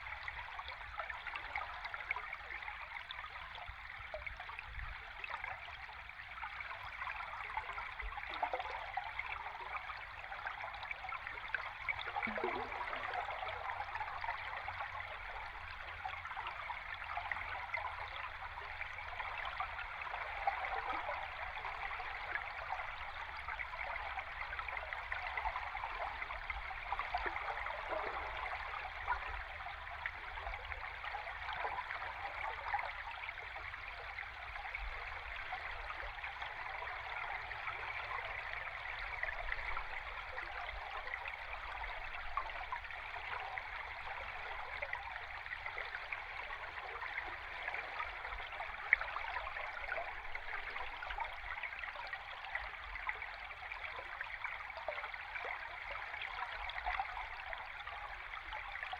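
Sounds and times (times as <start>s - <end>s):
underwater river rush: 7.6s - 58.9s.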